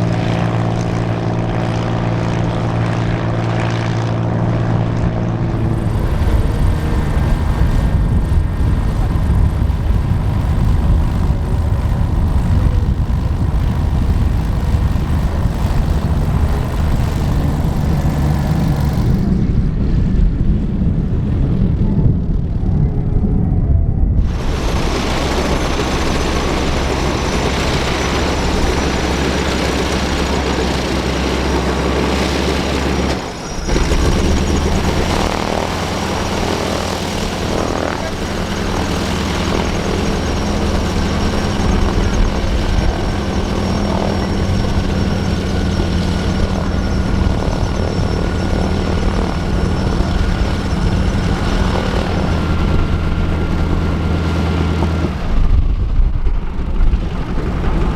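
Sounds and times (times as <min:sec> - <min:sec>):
radial aircraft engine running: 0:00.0 - 0:57.9.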